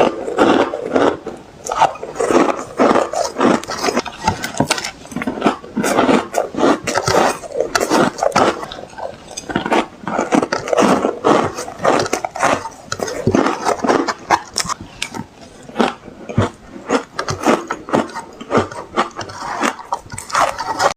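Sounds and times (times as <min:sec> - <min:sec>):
ice crunching between teeth: 0:00.0 - 0:20.9.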